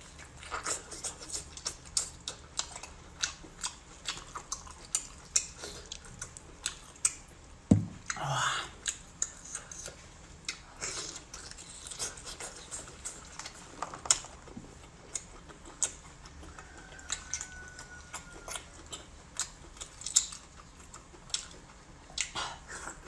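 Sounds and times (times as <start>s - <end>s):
person chewing: 0.1s - 23.0s.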